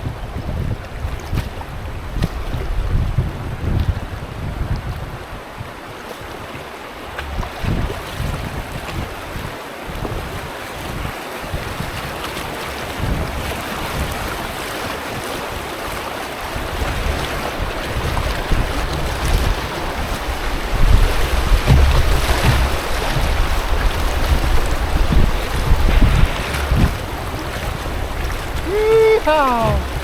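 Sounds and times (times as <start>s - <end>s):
wind buffeting microphone: 0.0s - 30.0s
river water rushing: 5.8s - 30.0s.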